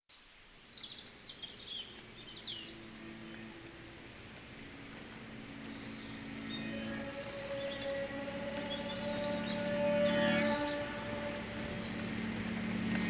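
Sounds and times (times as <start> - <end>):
outdoor background noise: 0.1 - 13.0
small birds chirping: 0.1 - 13.0
low steady tones: 1.8 - 13.0.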